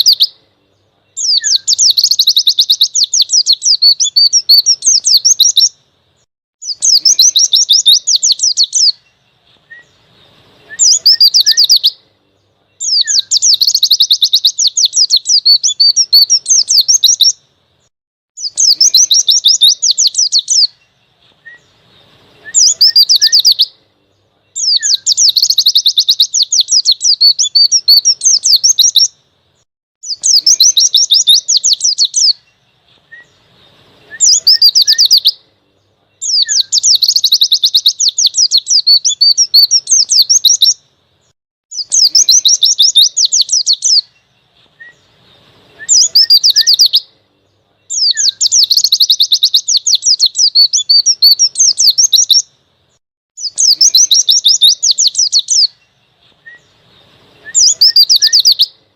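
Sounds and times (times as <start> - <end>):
bird singing chattering trills: 0.0 - 29.3, 30.0 - 52.6, 53.4 - 58.9.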